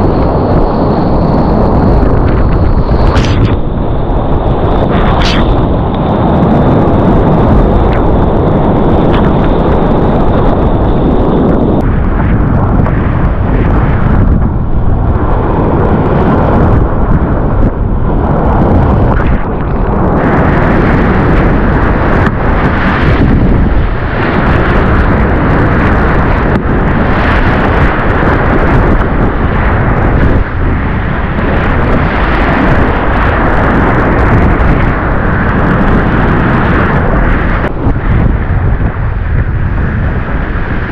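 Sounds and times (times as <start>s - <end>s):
breaking surf rushing: 0.0s - 40.9s
wind buffeting microphone: 0.0s - 40.9s.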